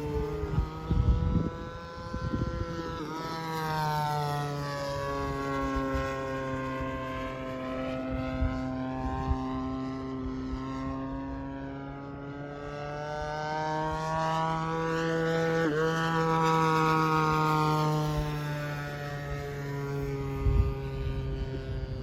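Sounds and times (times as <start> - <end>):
model airplane motor and propeller: 0.0 - 22.0.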